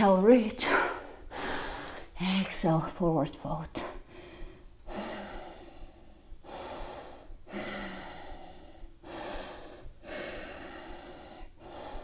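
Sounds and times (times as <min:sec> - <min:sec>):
woman breathing: 0:00.6 - 0:02.3, 0:03.8 - 0:12.0.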